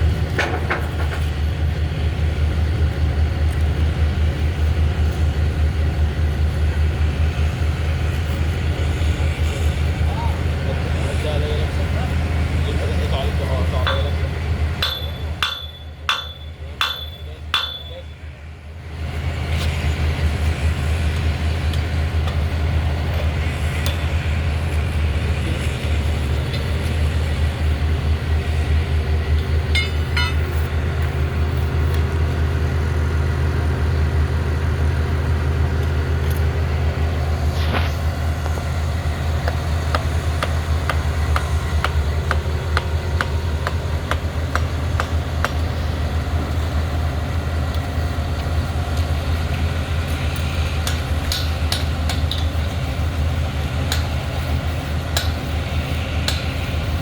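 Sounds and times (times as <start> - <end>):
heavy engine droning: 0.0 - 57.0.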